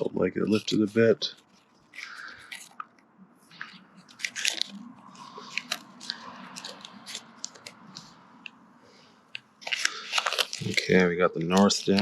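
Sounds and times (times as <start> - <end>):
backing paper crinkling: 0.0 - 8.6, 9.3 - 12.0.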